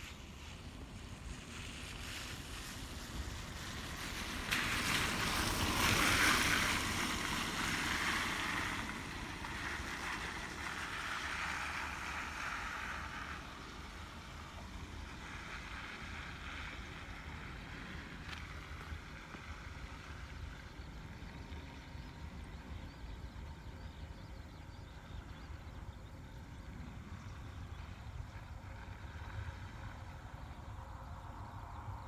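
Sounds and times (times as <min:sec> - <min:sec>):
distant jet engines roaring: 0:00.0 - 0:32.0.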